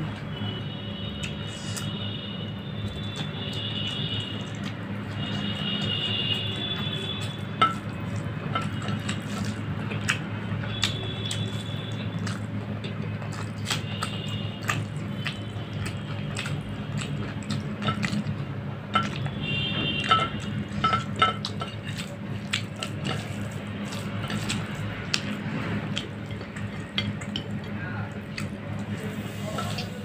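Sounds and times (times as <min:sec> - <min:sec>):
low steady hum: 0:00.0 - 0:30.0
wet squishing of hand mixing rice: 0:01.1 - 0:30.0.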